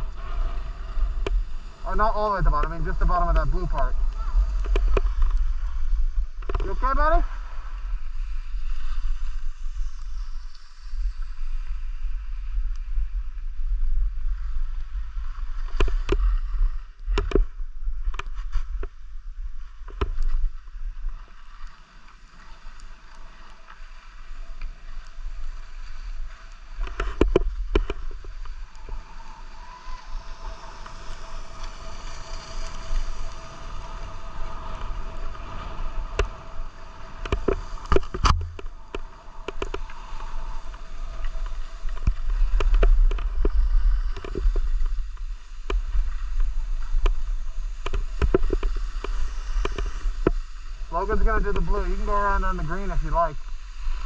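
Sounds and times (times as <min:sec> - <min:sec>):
skis scraping over snow: 0:00.0 - 0:16.9, 0:17.8 - 0:37.9, 0:38.7 - 0:54.0
wind rumbling on microphone: 0:00.0 - 0:21.7, 0:22.4 - 0:54.0.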